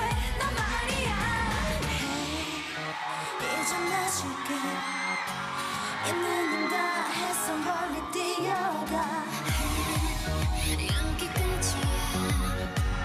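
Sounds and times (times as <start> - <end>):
pop backing track: 0.0 - 13.0
woman singing: 0.0 - 13.0.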